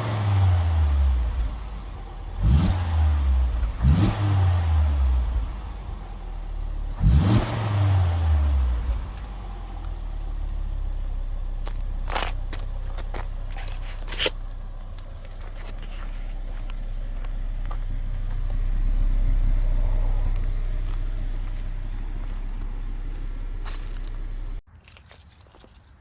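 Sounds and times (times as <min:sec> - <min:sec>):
car engine idling: 0:00.0 - 0:24.6.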